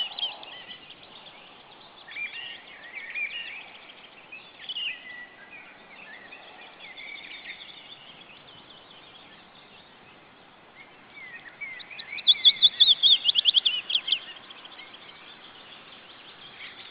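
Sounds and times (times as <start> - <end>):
osprey whistled chirps: 0.0 - 10.0, 11.1 - 16.9
songbird chirps: 0.0 - 16.9.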